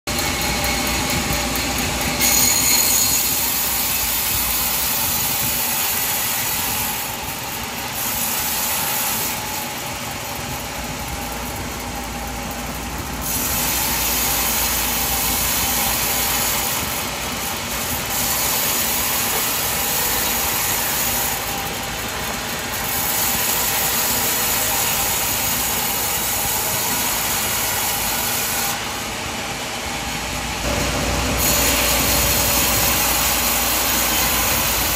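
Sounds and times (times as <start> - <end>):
sawmill saw cutting log: 0.1 - 34.9.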